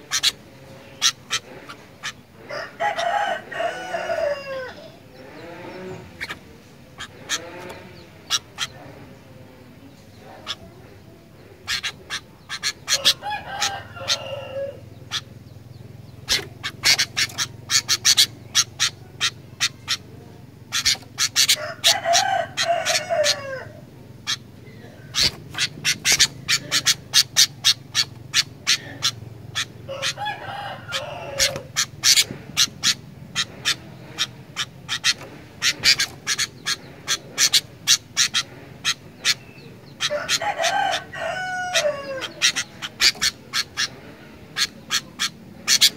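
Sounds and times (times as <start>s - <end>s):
bird warbling phrases: 0.0s - 45.9s
bulbul chipping calls: 0.0s - 45.9s.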